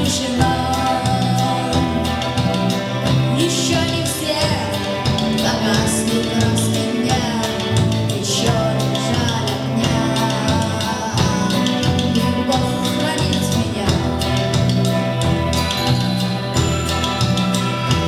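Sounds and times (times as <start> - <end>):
bass line: 0.0 - 18.0
drum kit: 0.0 - 18.0
guitar playing: 0.0 - 18.0.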